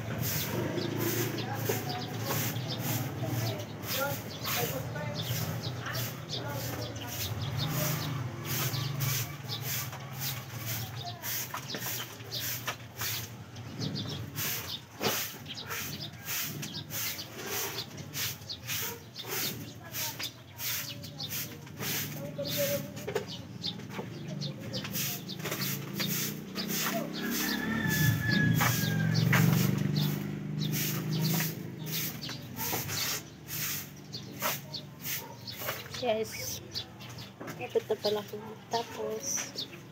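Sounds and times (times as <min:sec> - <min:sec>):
broom sweeping: 0:00.0 - 0:13.4, 0:14.0 - 0:23.1, 0:24.5 - 0:36.6.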